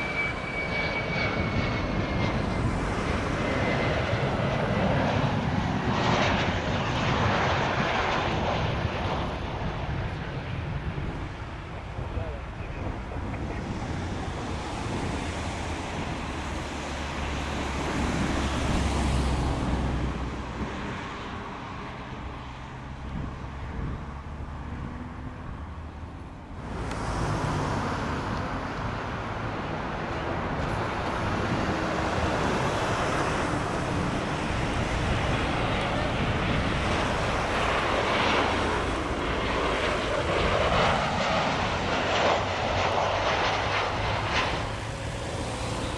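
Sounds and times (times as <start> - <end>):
jet engine roar: 0.0 - 45.9.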